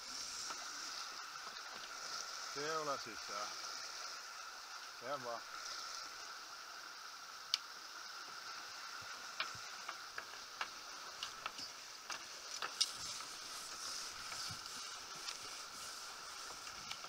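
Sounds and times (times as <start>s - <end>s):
water and wind rushing: 0.0s - 17.0s.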